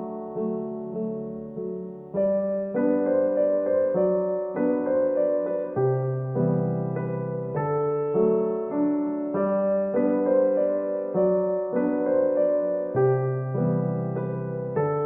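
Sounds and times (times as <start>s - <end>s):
gentle solo piano piece: 0.0s - 15.0s.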